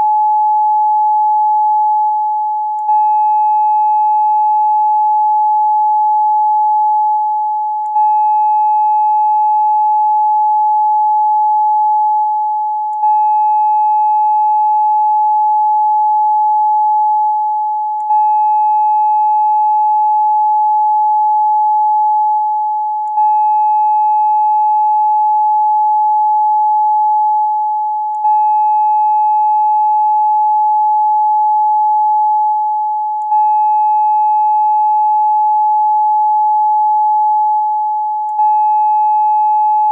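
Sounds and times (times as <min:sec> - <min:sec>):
pure tone: 0:00.0 - 0:39.9.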